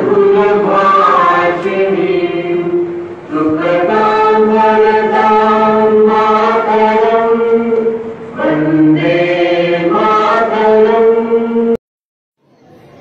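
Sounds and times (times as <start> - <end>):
group singing slow chant: 0.0 - 11.8.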